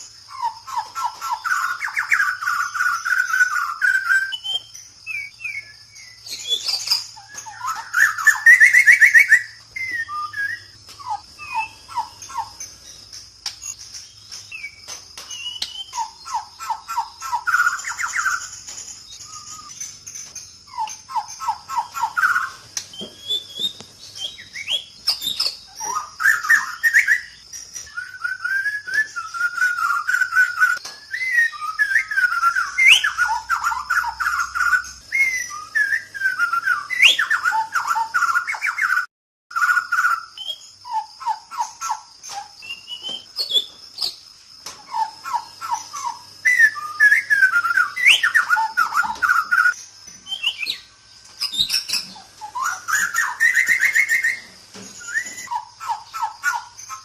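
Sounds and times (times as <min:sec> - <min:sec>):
birds whistling and trilling: 0:00.0 - 0:57.0.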